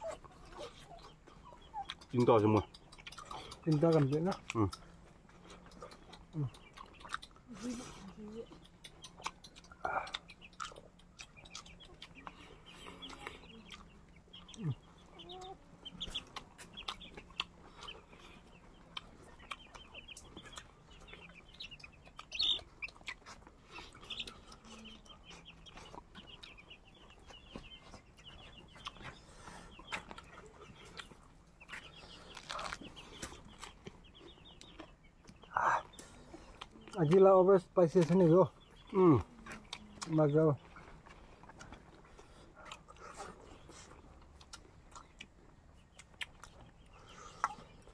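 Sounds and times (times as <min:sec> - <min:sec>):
chickens clucking: 0:00.0 - 0:47.9
rapid chirping: 0:00.0 - 0:47.9.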